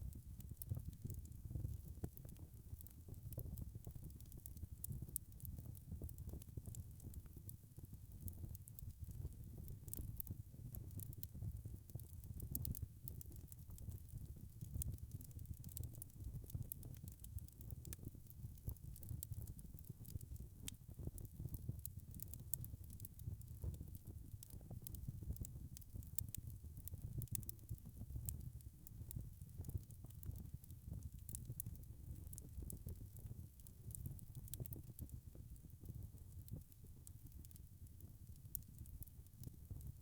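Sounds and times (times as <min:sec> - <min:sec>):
fire crackling and popping: 0:00.0 - 0:40.0
low rumble of flames: 0:00.1 - 0:40.0.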